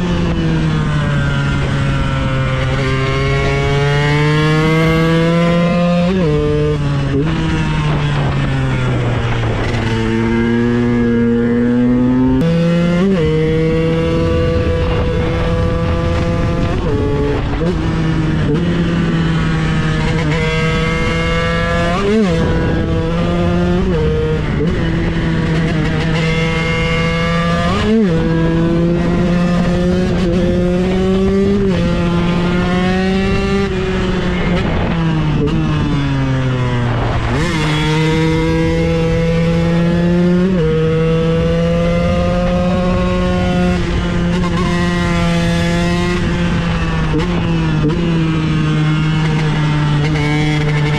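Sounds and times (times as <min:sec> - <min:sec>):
two-stroke motorcycle engine revving: 0:00.0 - 0:50.9.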